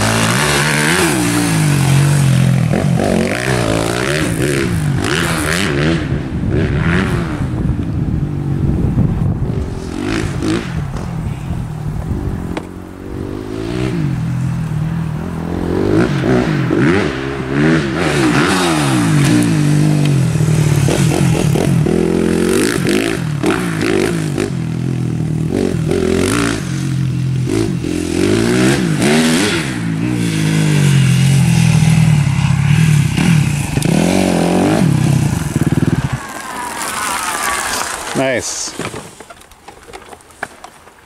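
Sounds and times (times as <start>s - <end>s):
dirt bike engine revving: 0.0s - 7.8s, 8.5s - 11.0s, 12.3s - 38.7s.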